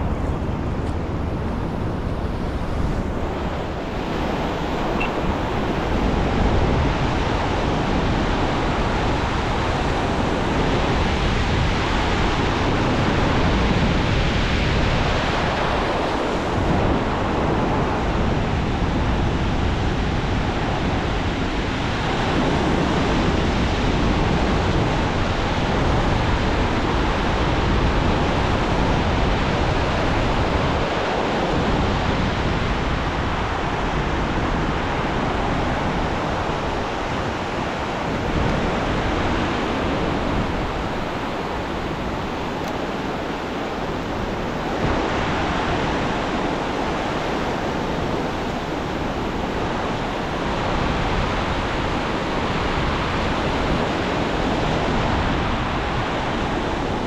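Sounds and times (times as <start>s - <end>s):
ocean surf washing onto beach: 0.0s - 57.0s
wind: 0.0s - 57.0s.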